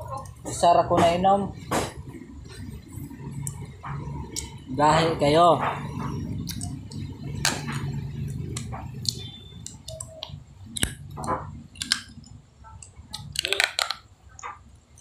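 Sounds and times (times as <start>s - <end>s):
man chewing and crunching: 1.6s - 4.7s, 5.8s - 15.0s.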